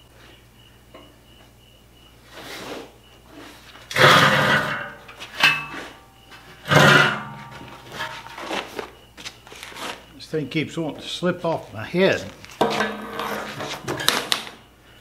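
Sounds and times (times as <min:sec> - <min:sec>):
low mains buzz: 0:02.9 - 0:15.0.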